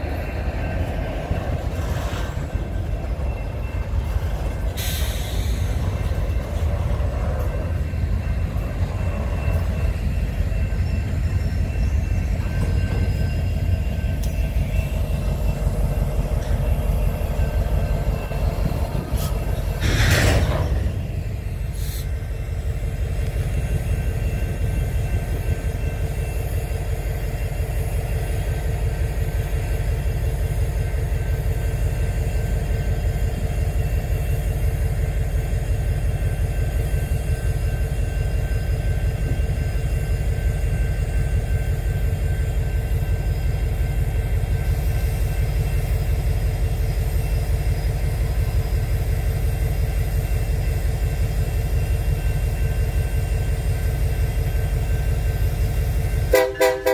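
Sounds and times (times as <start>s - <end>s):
diesel locomotive rumbling: 0.0s - 56.9s.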